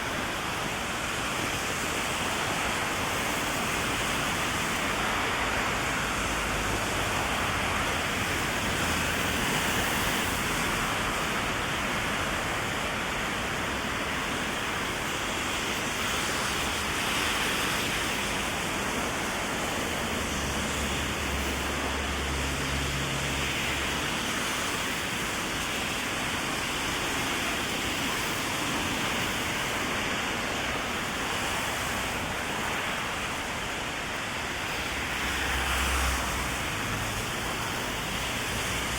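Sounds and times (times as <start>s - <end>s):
heavy rain on an umbrella: 0.0s - 38.9s.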